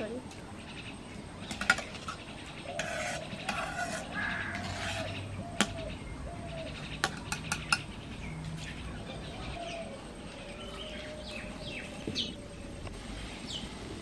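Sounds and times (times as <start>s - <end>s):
birds chirping: 0.0s - 14.0s
low steady background noise: 0.0s - 14.0s.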